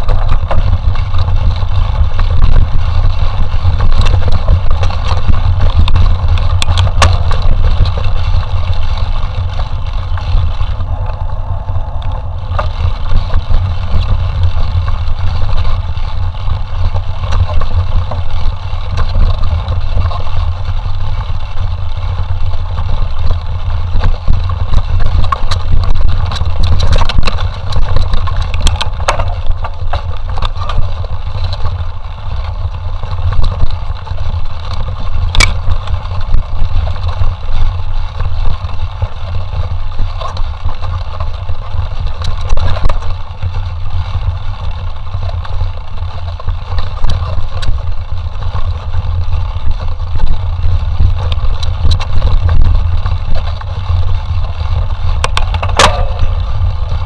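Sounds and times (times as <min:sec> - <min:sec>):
bike rattles and knocks: 0:00.0 - 0:57.0
wind rumble on microphone: 0:00.0 - 0:57.0.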